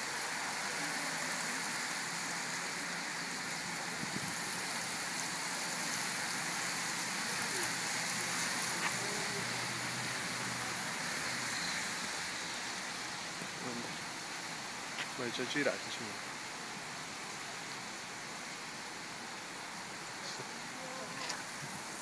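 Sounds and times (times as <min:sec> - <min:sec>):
rain on a wet road: 0:00.0 - 0:22.0.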